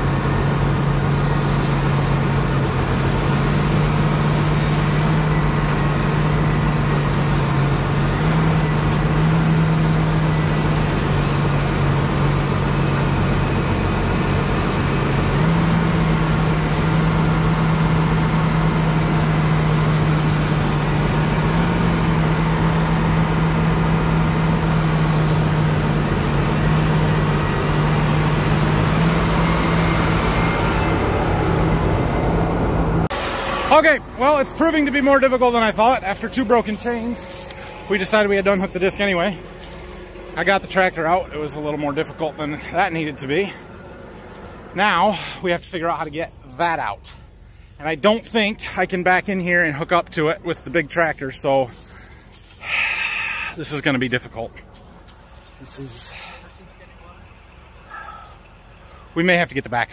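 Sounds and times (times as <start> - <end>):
diesel tractor engines under load: 0.0 - 59.9.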